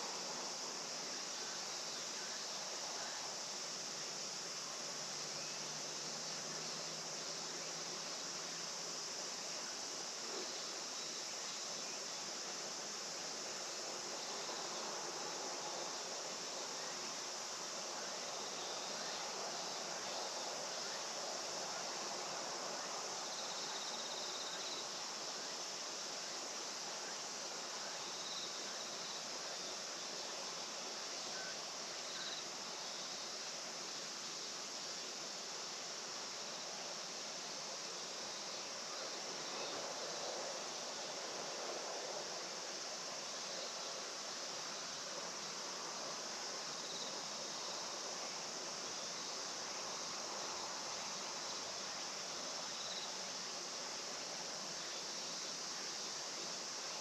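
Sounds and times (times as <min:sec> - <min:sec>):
insects humming high-pitched: 0:00.0 - 0:57.0
soft background hiss: 0:00.0 - 0:57.0.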